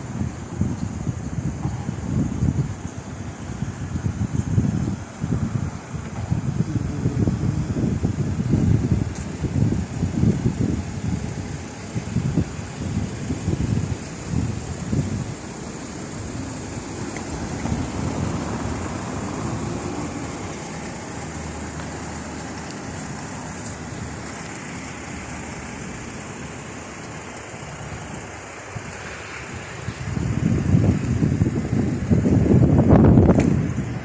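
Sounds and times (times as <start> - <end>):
car road and traffic noise: 0.0 - 34.0.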